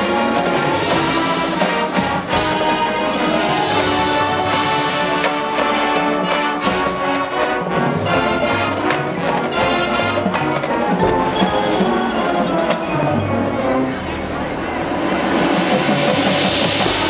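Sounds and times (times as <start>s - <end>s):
brass sustained chords: 0.0s - 17.0s
marching band playing: 0.0s - 17.0s
percussion hits: 0.0s - 17.0s.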